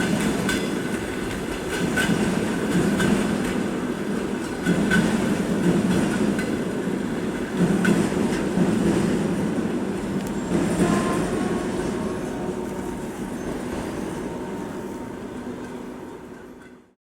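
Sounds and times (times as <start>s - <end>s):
wheels clacking over rail joints: 0.0s - 14.3s
train wheels rumbling on rails: 0.0s - 17.0s.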